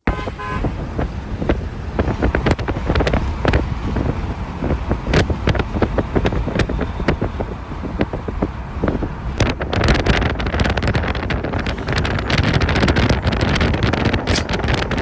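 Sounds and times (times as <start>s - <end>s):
knocks and clicks: 0.0s - 15.0s
low rumble: 0.0s - 15.0s
wind buffeting microphone: 0.0s - 15.0s.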